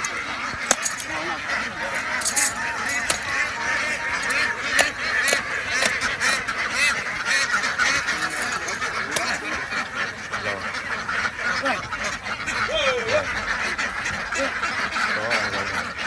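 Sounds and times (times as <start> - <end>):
flock of ducks quacking: 0.0 - 16.0.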